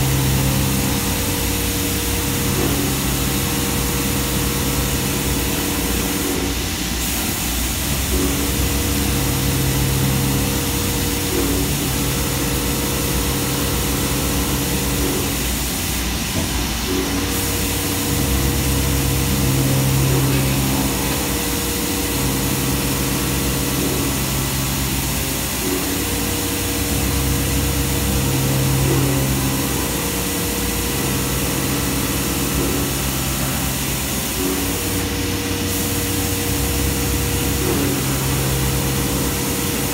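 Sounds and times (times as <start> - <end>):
coolant hissing: 0.0 - 39.9
deep metal cutting tone: 0.0 - 39.9.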